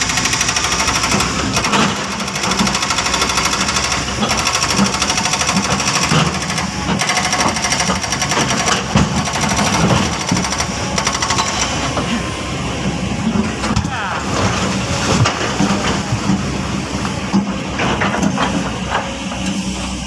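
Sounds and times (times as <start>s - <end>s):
excavator engine and hydraulics clattering: 0.0s - 20.0s.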